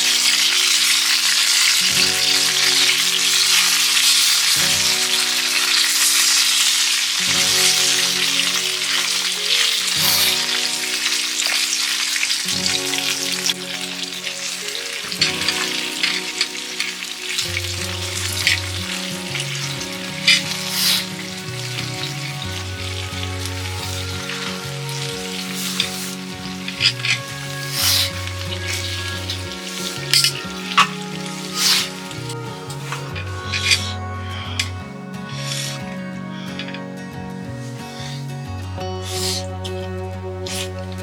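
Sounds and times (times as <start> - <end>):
food sizzling in a pan: 0.0 - 39.5
background music with bass notes: 0.0 - 41.0
oil popping: 0.0 - 41.0.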